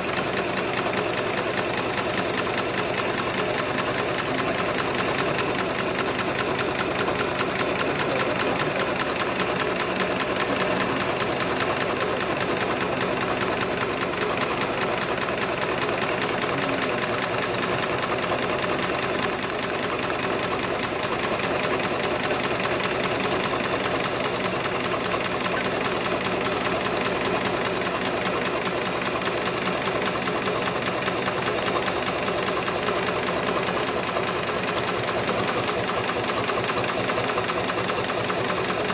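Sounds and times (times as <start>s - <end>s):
sewing machine stitching: 0.0s - 38.9s.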